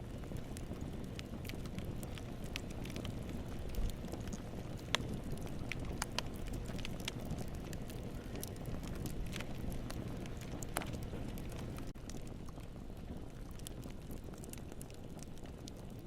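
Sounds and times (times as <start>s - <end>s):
campfire flames rumbling: 0.0s - 16.0s
wood crackling and popping: 0.0s - 16.0s.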